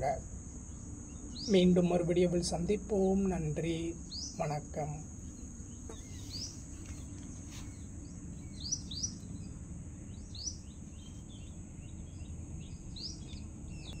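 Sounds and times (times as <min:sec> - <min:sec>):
low background rumble: 0:00.0 - 0:14.0
steady high-pitched hiss: 0:00.0 - 0:14.0
birds chirping: 0:00.6 - 0:14.0.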